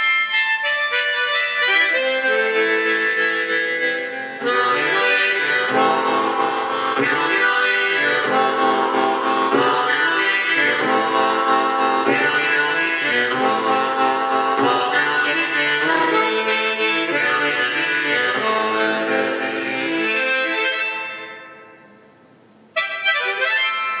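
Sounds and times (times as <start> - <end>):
harmonica playing notes and chords: 0.0 - 22.1, 22.7 - 24.0.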